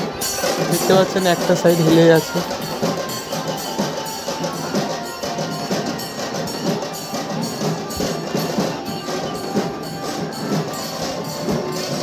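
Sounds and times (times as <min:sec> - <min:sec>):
drum-led music with fast beat: 0:00.0 - 0:12.0.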